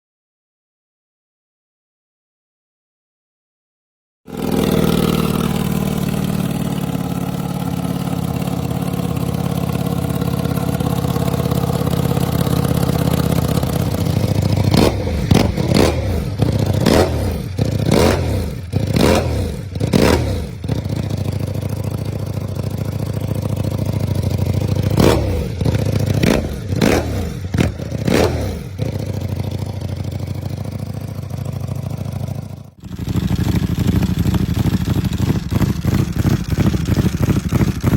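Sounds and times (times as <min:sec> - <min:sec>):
another engine idling: 0:04.3 - 0:37.9
motorcycle engine idling and revving: 0:04.3 - 0:37.9.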